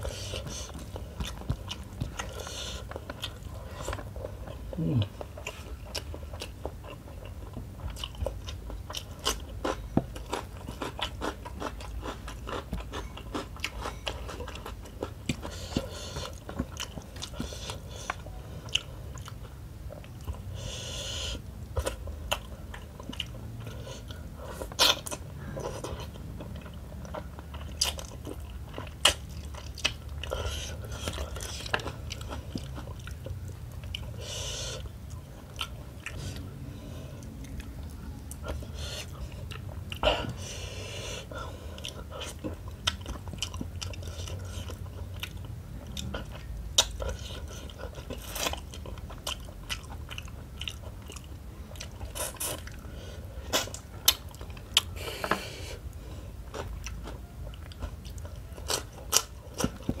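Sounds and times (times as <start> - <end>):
person chewing food: 0.0 - 60.0.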